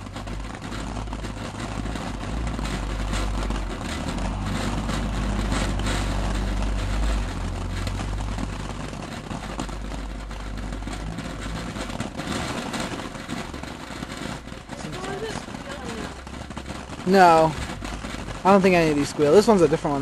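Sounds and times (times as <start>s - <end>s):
firework hissing and crackling: 0.0s - 20.0s
low rumble: 1.0s - 20.0s.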